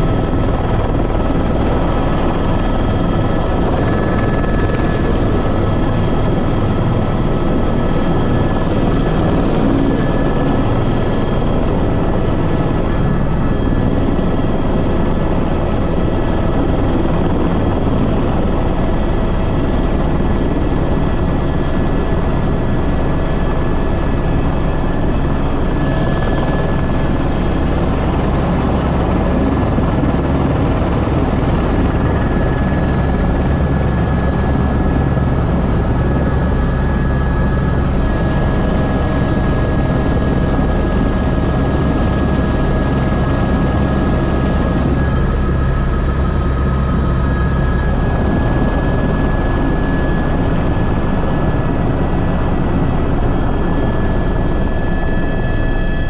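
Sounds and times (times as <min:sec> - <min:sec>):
helicopter rotor beat: 0:00.0 - 0:56.0
turbine whine: 0:00.0 - 0:56.0.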